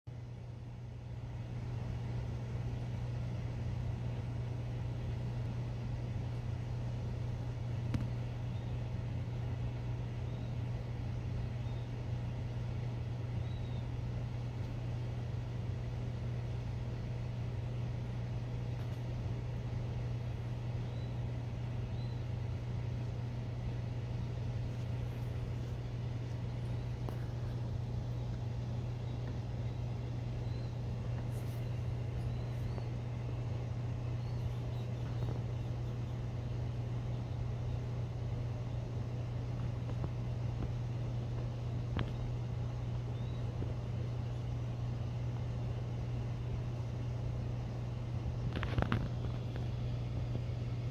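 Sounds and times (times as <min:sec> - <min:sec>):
low background hum: 0:00.0 - 0:50.9
quail chick peeping: 0:01.7 - 0:47.8.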